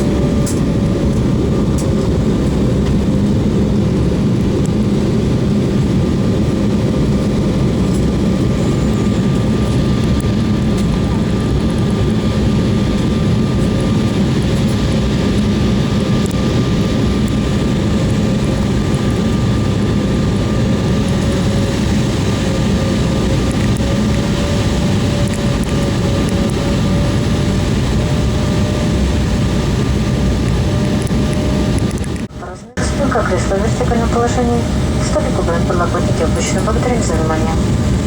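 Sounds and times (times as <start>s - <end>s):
airliner engine drone in cabin: 0.0s - 38.0s.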